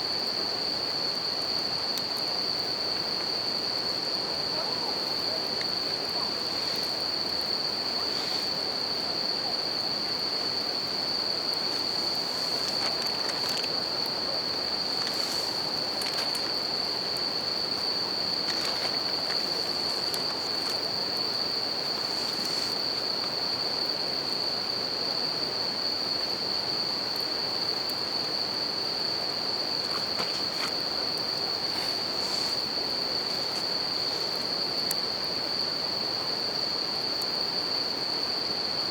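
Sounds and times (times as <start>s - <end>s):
crickets singing: 0.0s - 38.9s
campfire crackles: 0.1s - 37.4s.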